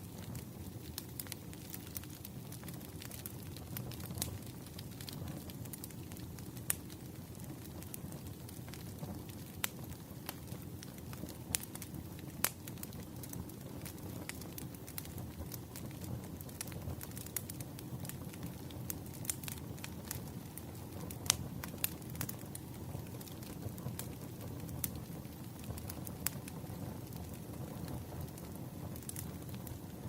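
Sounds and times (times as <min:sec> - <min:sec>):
fire crackles and pops: 0:00.0 - 0:30.0
wood fire rumbling: 0:00.0 - 0:30.0.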